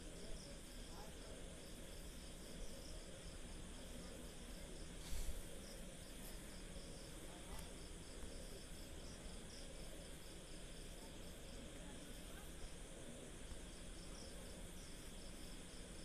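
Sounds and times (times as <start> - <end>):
insect chirping: 0.0 - 16.0
low background hiss: 0.0 - 16.0.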